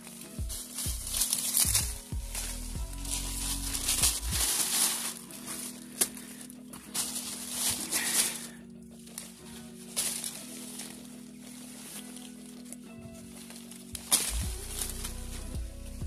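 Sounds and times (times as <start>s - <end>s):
leaves and branches rustling: 0.0s - 16.0s.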